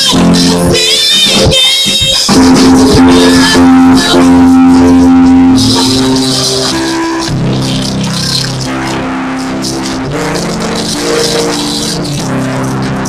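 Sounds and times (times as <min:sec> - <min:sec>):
instrumental worship music: 0:00.0 - 0:13.0.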